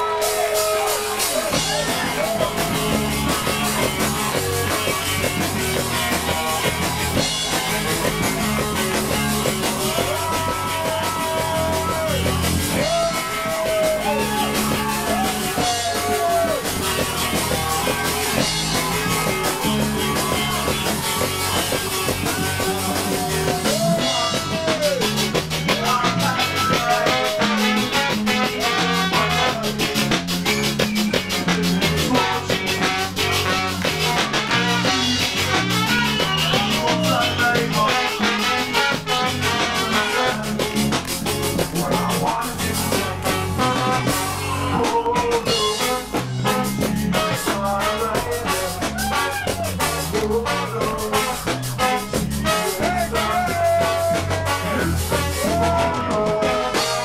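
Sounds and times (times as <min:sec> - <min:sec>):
trombone: 0:00.0 - 0:30.3, 0:31.8 - 0:57.0
ska band playing live: 0:00.0 - 0:57.0.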